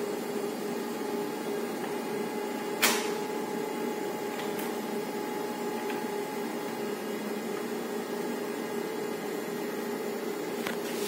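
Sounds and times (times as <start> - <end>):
printer humming and whirring: 0.0 - 11.0.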